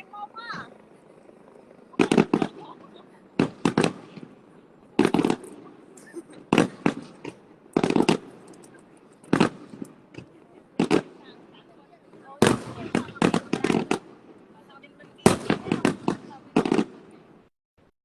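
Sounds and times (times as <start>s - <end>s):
faint fireworks crackling: 0.0s - 17.5s
fireworks bangs: 0.0s - 17.5s.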